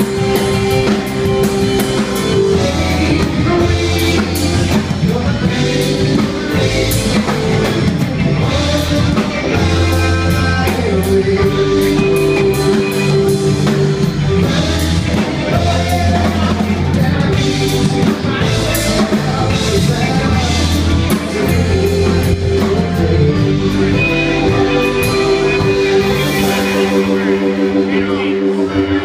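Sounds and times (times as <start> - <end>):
drum kit steady beat: 0.0 - 29.0
guitars: 0.0 - 29.0
person singing: 0.0 - 29.0
rock band playing: 0.0 - 29.0.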